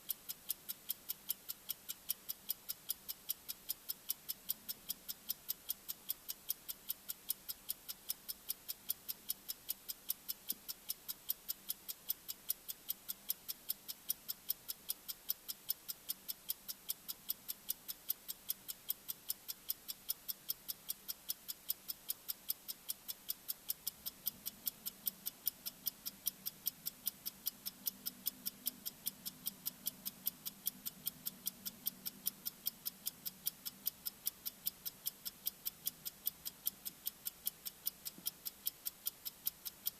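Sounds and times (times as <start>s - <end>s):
faint low hum: 0.0s - 39.9s
high-pitched timer ticking: 0.0s - 39.9s.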